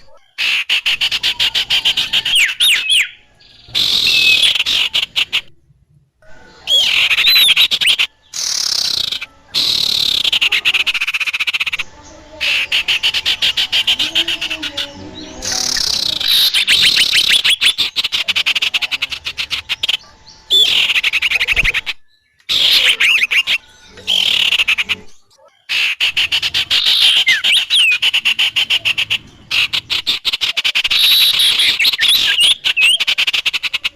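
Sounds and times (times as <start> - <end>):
bird chattering trills: 0.0 - 5.6, 6.4 - 33.9.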